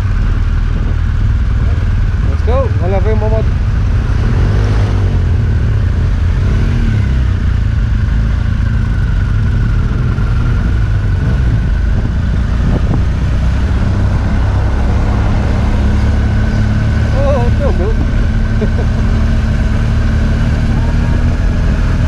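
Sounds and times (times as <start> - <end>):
motorcycle engine rumble: 0.0 - 22.0.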